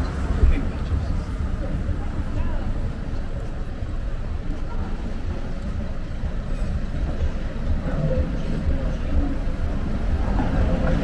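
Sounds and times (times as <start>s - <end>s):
faint voices: 0.0s - 11.0s
road traffic rumble: 0.0s - 11.0s.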